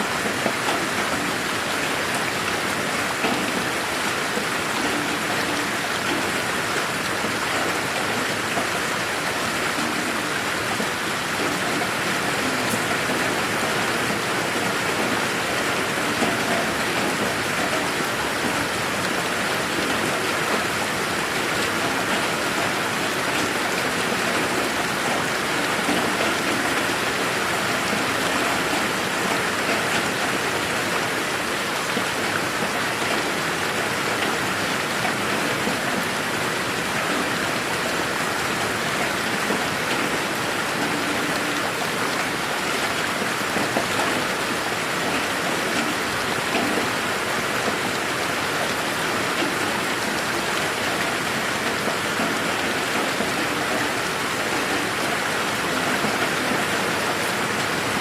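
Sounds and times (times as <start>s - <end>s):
steady rain hiss: 0.0s - 58.0s
raindrops pattering: 0.1s - 58.0s.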